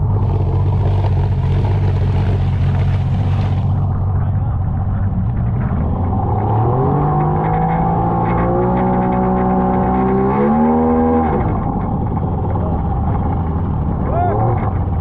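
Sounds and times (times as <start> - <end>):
outboard engine revving: 0.0 - 15.0.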